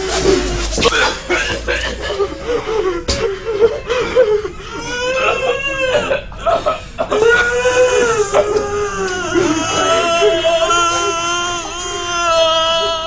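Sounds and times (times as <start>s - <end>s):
person sobbing and wailing: 1.9s - 13.0s.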